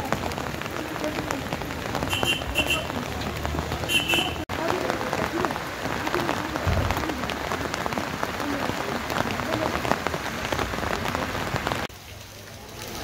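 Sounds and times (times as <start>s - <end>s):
rain on hard surfaces: 0.0s - 13.0s.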